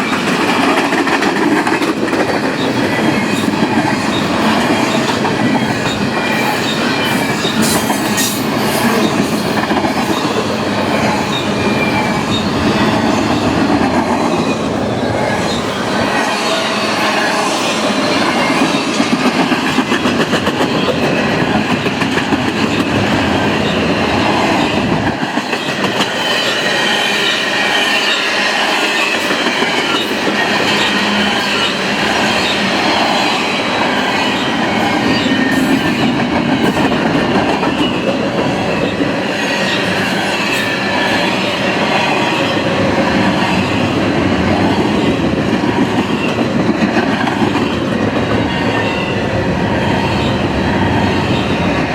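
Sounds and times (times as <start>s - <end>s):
freight train wheels rumbling: 0.0s - 51.9s.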